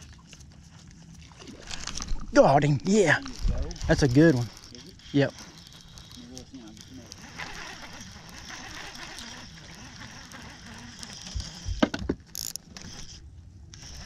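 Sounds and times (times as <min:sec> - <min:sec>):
fishing reel gears whirring: 0:01.5 - 0:14.0.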